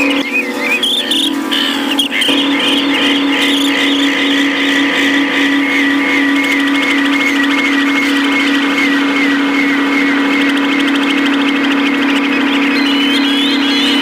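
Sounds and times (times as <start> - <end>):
looping electronic chirp: 0.0 - 14.0
loud electronic drone: 0.0 - 14.0
rapid crackling texture: 0.0 - 14.0.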